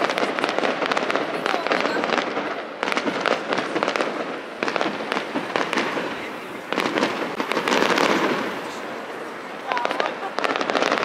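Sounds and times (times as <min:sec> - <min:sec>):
fireworks crackling bangs: 0:00.0 - 0:11.0.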